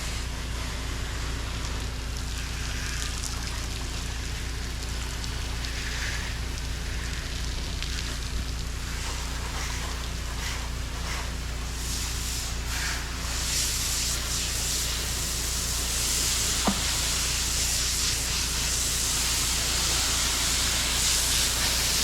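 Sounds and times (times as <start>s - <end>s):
engine and pump humming: 0.0s - 22.0s
pressure washer spraying water: 0.0s - 22.0s.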